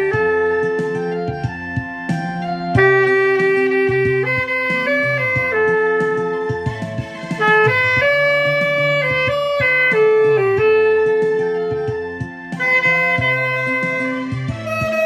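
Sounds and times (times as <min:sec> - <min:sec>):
backing track: 0:00.0 - 0:15.0
saxophone melody: 0:00.0 - 0:15.0.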